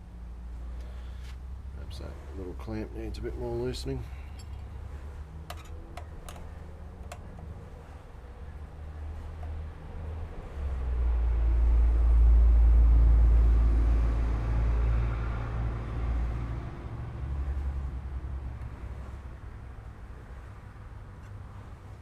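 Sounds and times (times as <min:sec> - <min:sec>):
vehicle passing by: 0:00.4 - 0:22.0.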